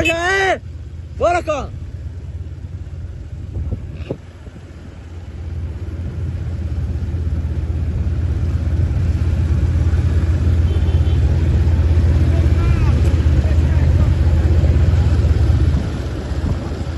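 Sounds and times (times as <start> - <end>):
low rumble: 0.6 - 16.9.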